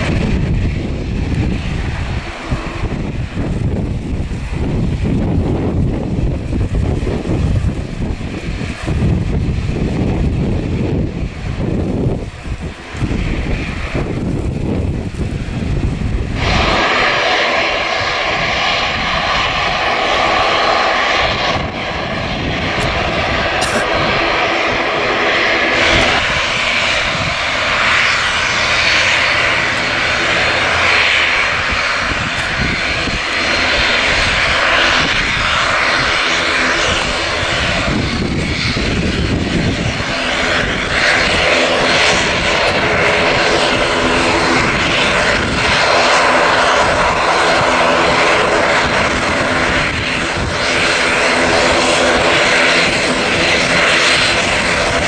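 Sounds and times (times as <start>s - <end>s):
low propeller hum: 0.0s - 55.0s
turboprop engines running: 0.0s - 55.0s.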